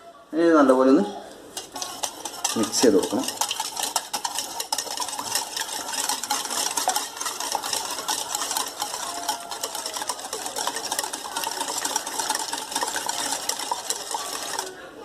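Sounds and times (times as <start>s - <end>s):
eggs beaten in a bowl: 1.5s - 14.9s.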